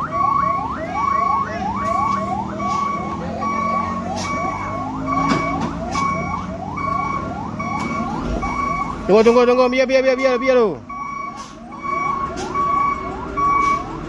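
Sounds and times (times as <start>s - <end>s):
electronic whooping warning alarm: 0.0s - 14.0s
truck diesel engine running: 0.0s - 14.0s.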